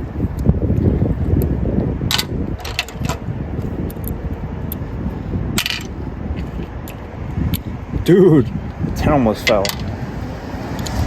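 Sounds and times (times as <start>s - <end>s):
microphone handling rumble: 0.0s - 11.0s.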